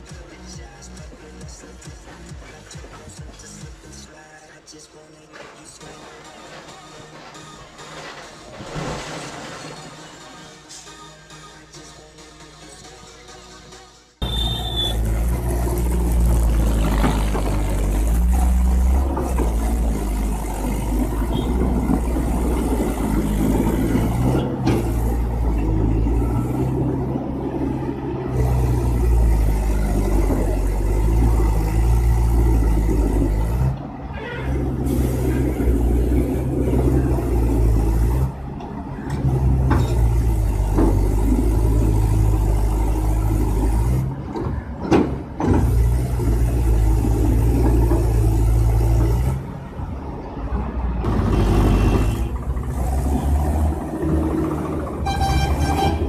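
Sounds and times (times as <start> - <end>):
tractor diesel engine labouring: 0.0 - 10.8, 14.2 - 56.0.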